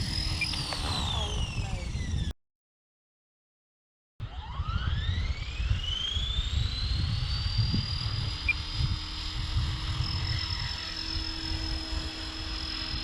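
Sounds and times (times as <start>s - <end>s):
rc helicopter motor whine: 0.0s - 2.3s, 4.2s - 13.0s
wind rumble on microphone: 0.0s - 2.3s, 4.2s - 13.0s.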